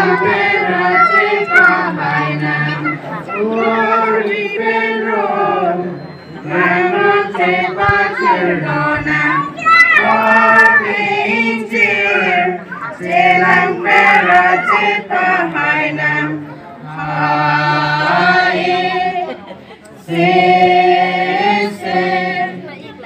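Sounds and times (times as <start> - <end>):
young women singing together: 0.0 - 23.0.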